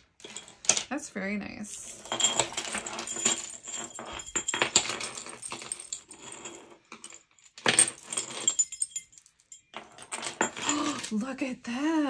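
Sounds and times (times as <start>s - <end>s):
jewelry clinking and rattling: 0.0s - 1.0s, 1.6s - 11.3s.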